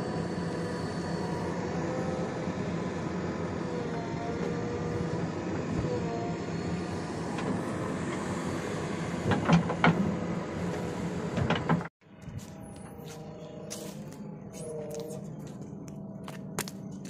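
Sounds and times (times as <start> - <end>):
hydraulic whine: 0.0 - 16.1
diesel engine under load: 0.0 - 17.0.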